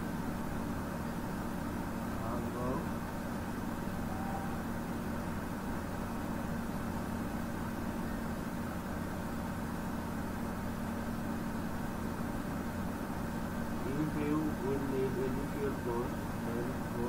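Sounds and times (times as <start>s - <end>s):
low hum: 0.0s - 9.2s, 11.0s - 17.0s.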